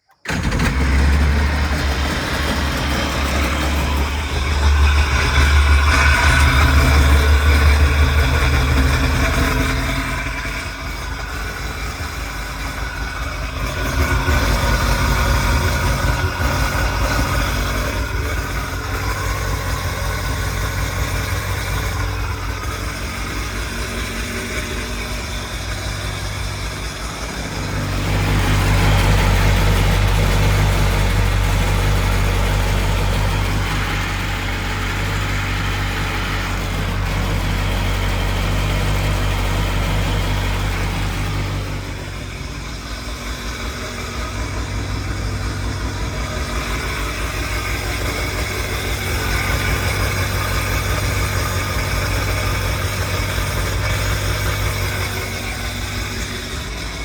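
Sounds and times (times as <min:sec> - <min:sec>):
jet boat engine running: 0:00.0 - 0:57.0.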